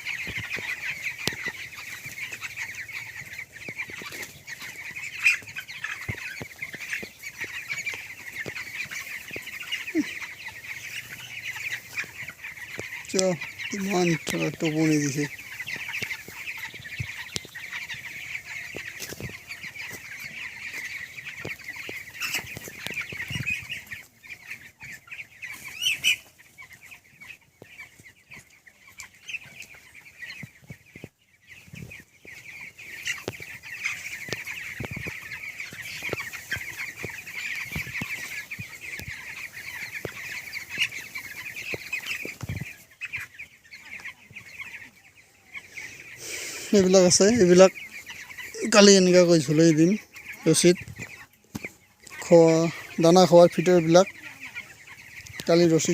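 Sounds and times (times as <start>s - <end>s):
chicks peeping: 0.0s - 55.9s.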